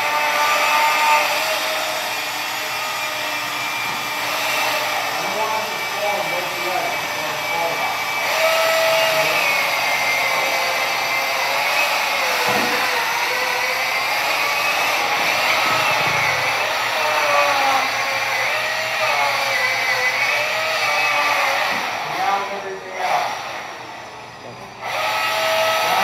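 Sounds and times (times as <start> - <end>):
electric chainsaws cutting ice: 0.0 - 23.9, 24.8 - 26.0.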